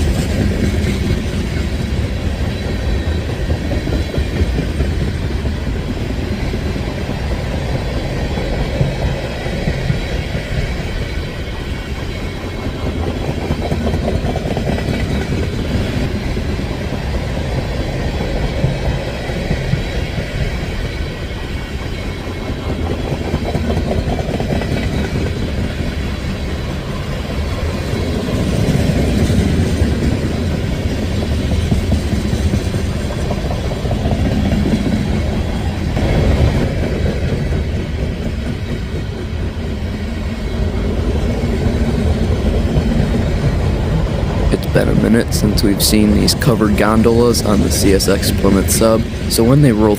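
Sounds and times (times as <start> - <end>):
train wheels rumbling on track: 0.0 - 49.9.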